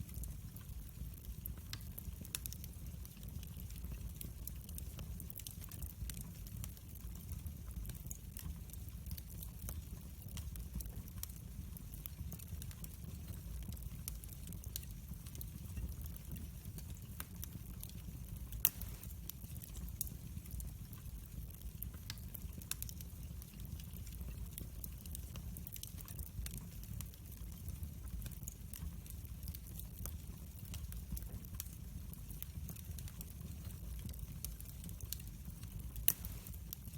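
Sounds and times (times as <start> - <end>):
fire popping: 0.0 - 36.9
wood fire crackling: 0.0 - 36.9.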